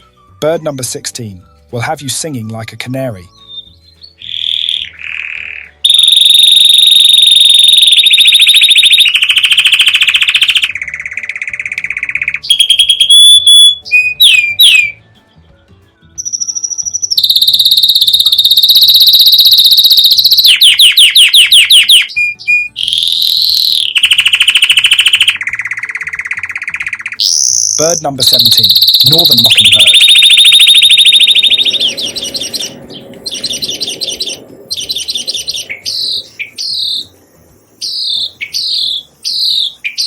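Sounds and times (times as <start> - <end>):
canary singing trills: 1.6 - 15.0, 16.1 - 40.0.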